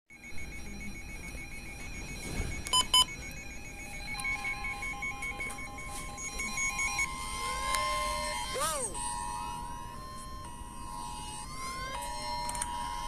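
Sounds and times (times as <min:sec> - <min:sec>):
fast electronic alert beeping: 0:00.1 - 0:13.0
steady held alert tone: 0:00.1 - 0:13.0.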